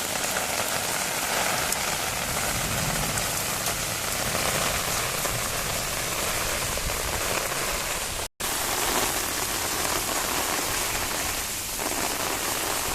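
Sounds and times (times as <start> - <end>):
rain pattering: 0.0 - 12.9.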